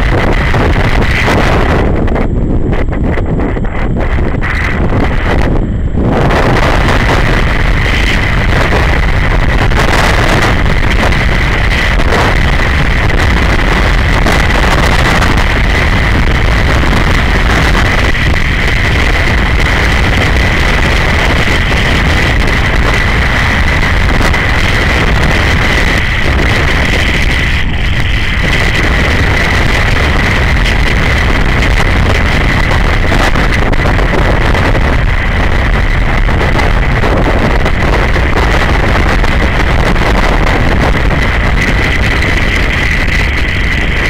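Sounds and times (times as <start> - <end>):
motorcycle engine running: 0.0 - 44.0
steady high whine: 0.0 - 44.0
wind rushing over microphone: 0.0 - 44.0.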